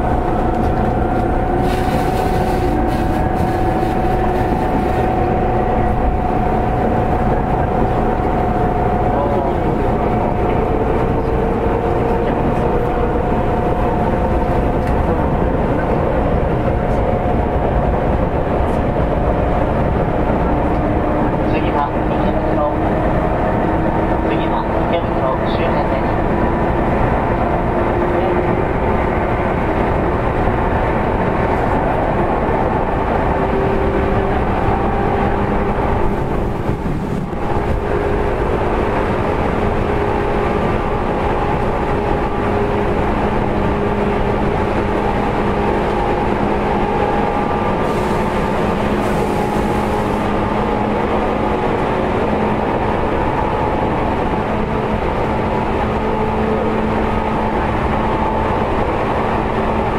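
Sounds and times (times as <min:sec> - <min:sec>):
train motor and gear hum: 0:00.0 - 0:59.9
train wheels rumbling on rails: 0:00.0 - 0:59.9.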